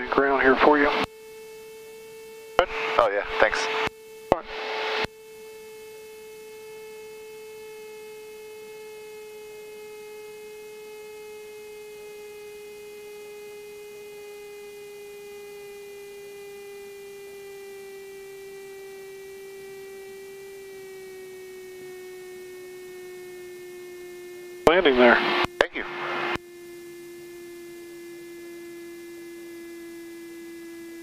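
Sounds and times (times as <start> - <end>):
airplane engine hum: 0.0 - 31.0.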